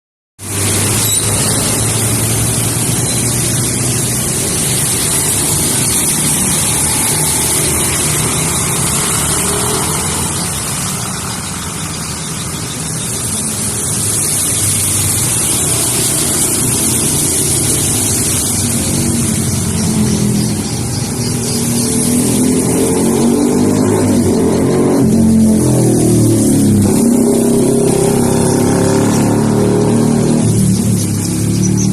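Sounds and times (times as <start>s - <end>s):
vehicle engines running: 0.4s - 31.9s.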